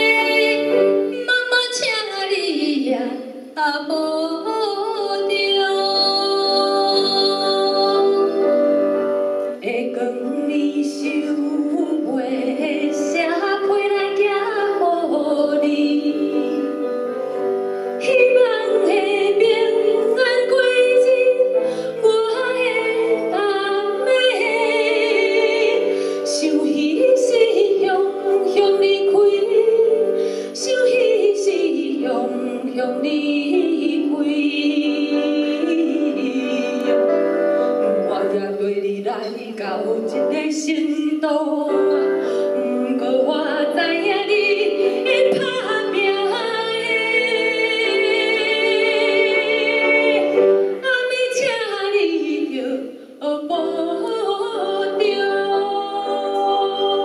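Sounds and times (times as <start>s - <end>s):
instrumental accompaniment: 0.0s - 1.8s, 2.6s - 57.0s
women singing a duet: 0.0s - 8.8s, 9.5s - 57.0s.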